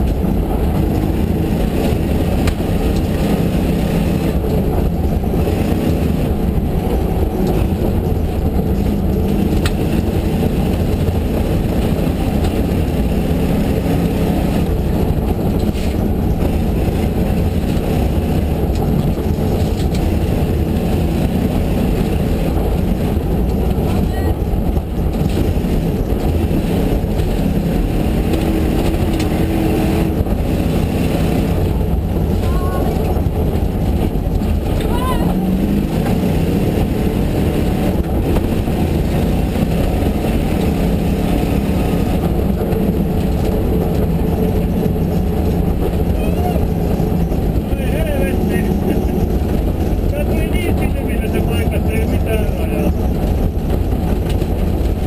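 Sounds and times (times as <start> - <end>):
car engine running hard: 0.0 - 55.0.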